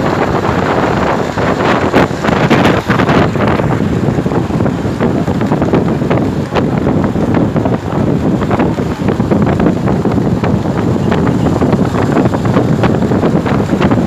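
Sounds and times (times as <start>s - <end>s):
motorcycle engines running: 0.0s - 14.0s
wind buffeting microphone: 0.0s - 14.0s.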